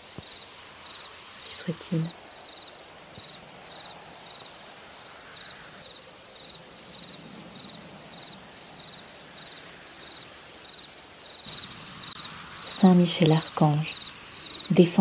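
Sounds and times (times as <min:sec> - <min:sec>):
cricket chirping: 0:00.0 - 0:15.0
even hiss: 0:00.0 - 0:15.0.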